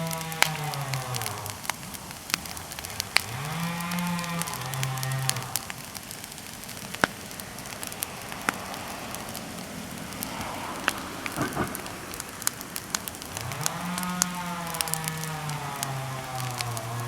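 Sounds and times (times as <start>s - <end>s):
bonfire crackling: 0.0s - 17.0s
fire hissing: 0.0s - 17.0s
sharp pops of burning wood: 0.0s - 17.0s.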